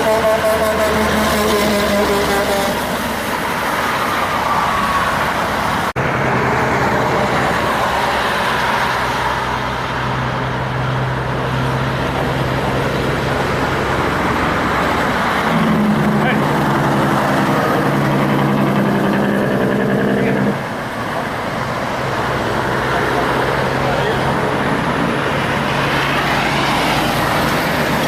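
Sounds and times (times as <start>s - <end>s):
truck engines: 0.0s - 28.0s.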